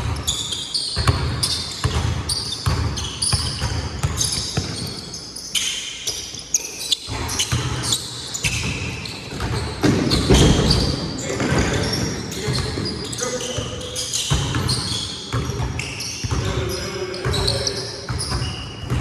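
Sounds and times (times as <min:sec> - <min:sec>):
sneakers squeaking: 0:00.0 - 0:19.0
basketball dribbling thuds: 0:01.0 - 0:05.0, 0:07.1 - 0:19.0.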